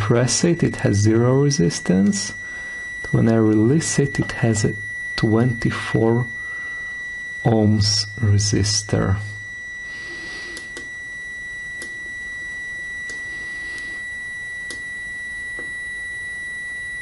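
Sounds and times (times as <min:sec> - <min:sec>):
meter continuity beep: 0:00.0 - 0:17.0.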